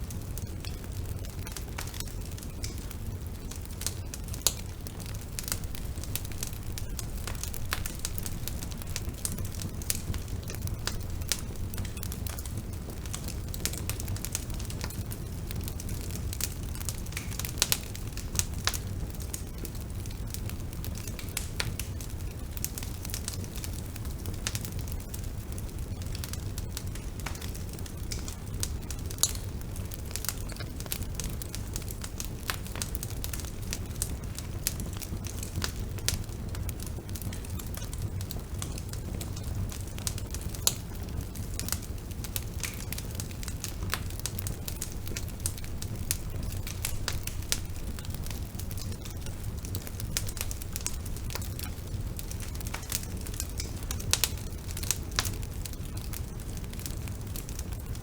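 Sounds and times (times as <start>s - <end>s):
bonfire rumble: 0.0s - 58.0s
burning wood crackling and popping: 0.0s - 58.0s.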